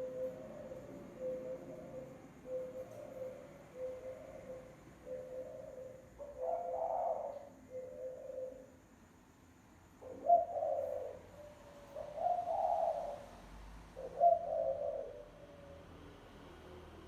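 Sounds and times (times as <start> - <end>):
dove cooing: 0.0 - 8.8, 10.0 - 15.7.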